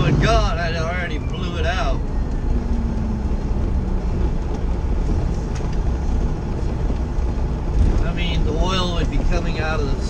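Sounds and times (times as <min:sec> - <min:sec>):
diesel truck engine rumble: 0:00.0 - 0:10.0
road noise: 0:00.0 - 0:10.0.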